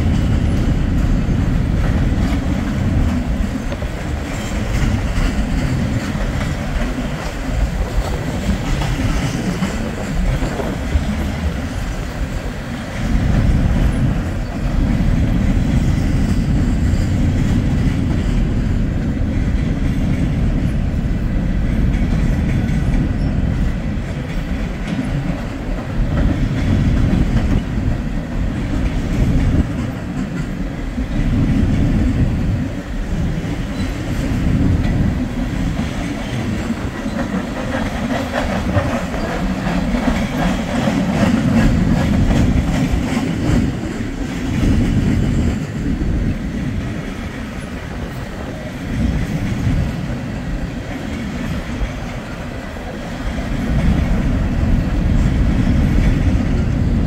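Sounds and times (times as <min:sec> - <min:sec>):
train cars rumbling: 0:00.0 - 0:57.0
wheels clacking over rail joints: 0:00.0 - 0:57.0.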